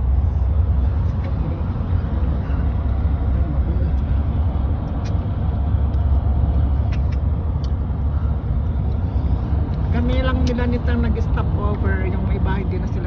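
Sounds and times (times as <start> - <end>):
road noise inside moving vehicle: 0.0 - 13.0.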